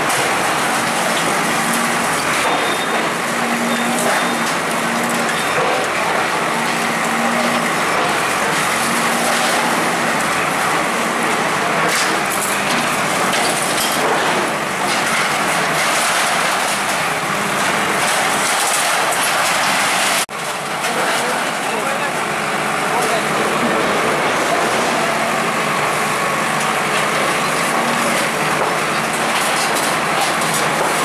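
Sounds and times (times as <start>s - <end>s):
heavy machinery running: 0.0s - 31.0s
motor vehicles running: 0.0s - 31.0s.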